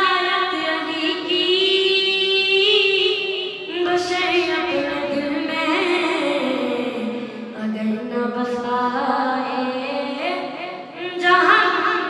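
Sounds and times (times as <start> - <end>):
boy singing into microphone: 0.0 - 12.0.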